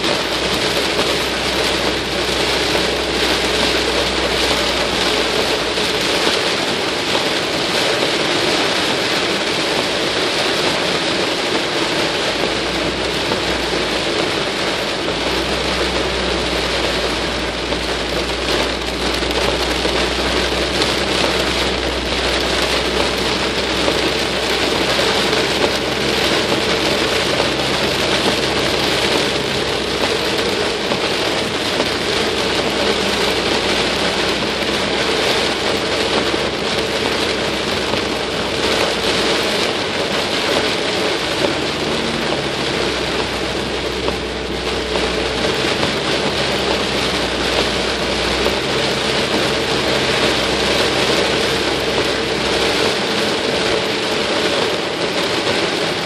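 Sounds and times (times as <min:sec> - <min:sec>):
heavy rain on car roof: 0:00.0 - 0:56.0.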